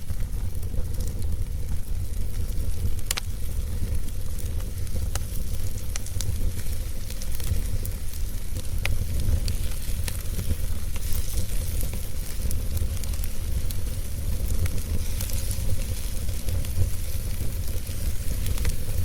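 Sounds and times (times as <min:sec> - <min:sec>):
fire snaps and pops: 0:00.0 - 0:19.0
low fire rumble: 0:00.0 - 0:19.0.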